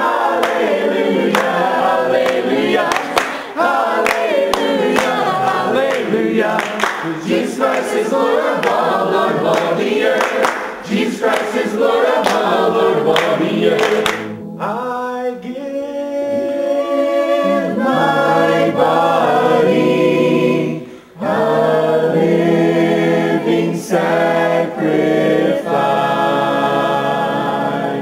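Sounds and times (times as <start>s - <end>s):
congregation singing a cappella: 0.0s - 28.0s.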